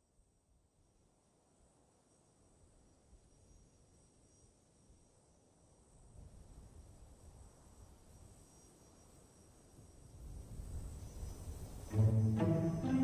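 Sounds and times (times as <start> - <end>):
faint insect chirring: 0.8 - 12.4.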